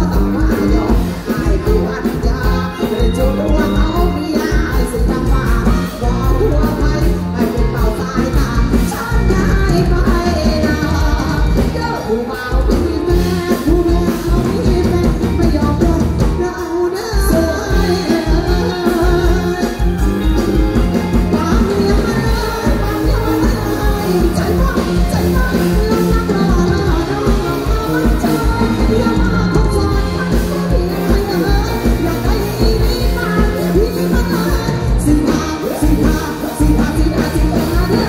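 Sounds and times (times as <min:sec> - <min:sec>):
live band music: 0:00.0 - 0:38.0
woman singing into a microphone: 0:00.0 - 0:38.0.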